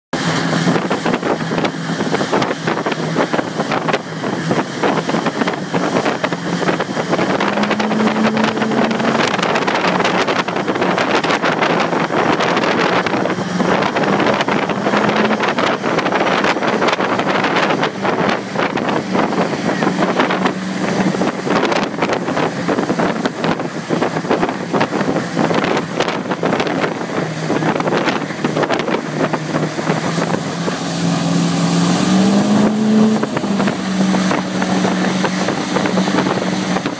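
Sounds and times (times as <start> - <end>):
speedboat engine running: 0.1 - 36.9
water spray rushing: 0.2 - 36.9
wind buffeting microphone: 0.2 - 36.9.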